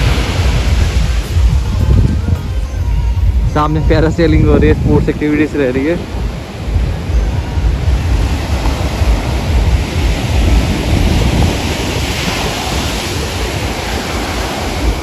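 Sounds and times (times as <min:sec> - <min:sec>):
sea surf breaking: 0:00.0 - 0:15.0
wind buffeting microphone: 0:00.0 - 0:15.0.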